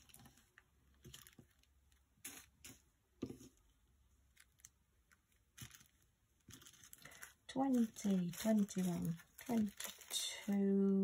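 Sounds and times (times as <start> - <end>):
plastic bags crinkling: 0.0 - 2.8, 4.3 - 11.0.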